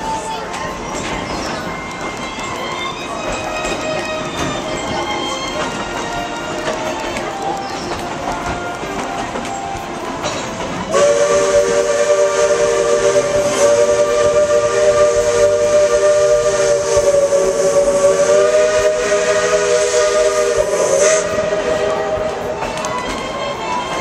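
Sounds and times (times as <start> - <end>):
steam hissing: 0.0 - 24.0
steam locomotive whistle: 0.0 - 24.0.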